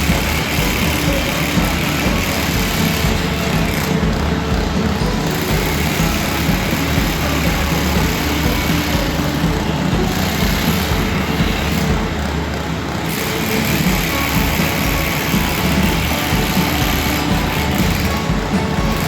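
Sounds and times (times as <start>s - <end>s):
construction machinery engine running: 0.0s - 19.0s.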